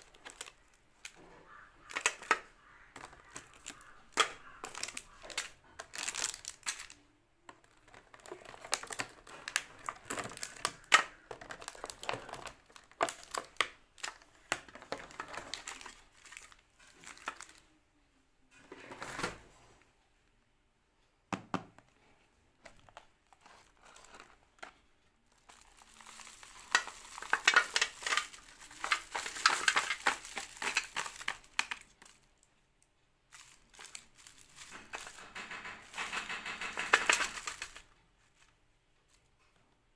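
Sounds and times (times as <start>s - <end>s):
plastic wrappers crinkling: 0.0s - 17.8s, 22.6s - 32.5s, 33.3s - 38.5s.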